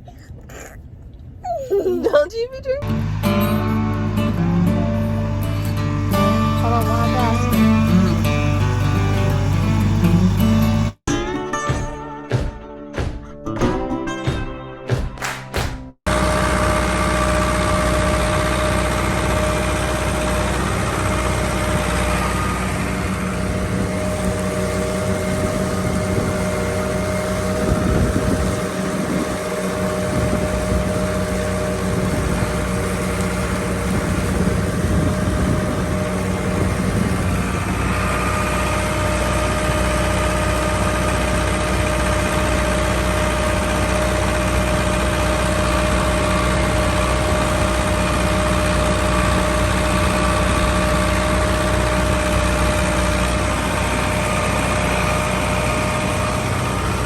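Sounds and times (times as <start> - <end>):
engine running steadily: 0.0 - 11.0, 16.0 - 57.0.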